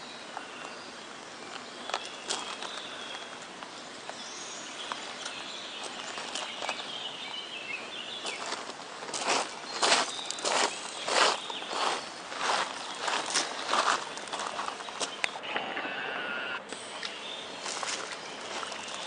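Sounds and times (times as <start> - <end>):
birds chirping and singing: 0.0 - 19.0
steady outdoor hiss: 0.0 - 19.0.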